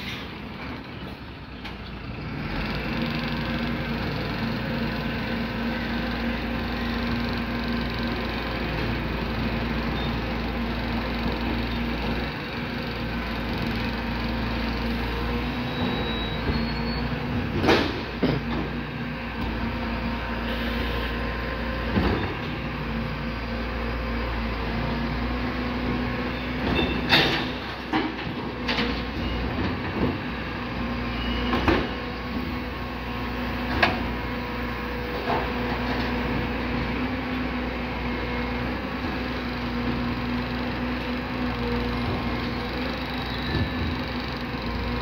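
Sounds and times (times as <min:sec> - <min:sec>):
truck diesel engine at raised revs: 0:00.0 - 0:45.0.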